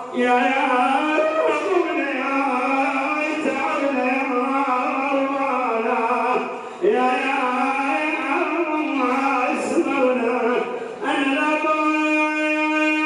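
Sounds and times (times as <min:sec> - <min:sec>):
man chanting religious elegy: 0:00.0 - 0:13.0.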